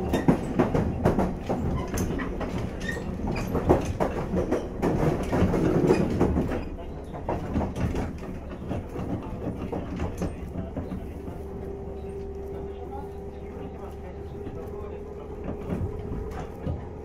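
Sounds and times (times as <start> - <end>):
low train rumble: 0.0 - 17.0
wheels clattering over rail joints: 0.0 - 17.0.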